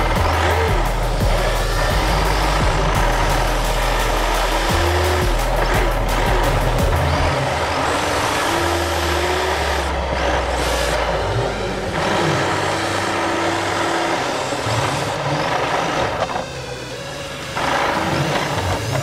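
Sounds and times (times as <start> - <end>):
motor whine: 0.0 - 19.0
rc car motor and tyres: 0.0 - 19.0.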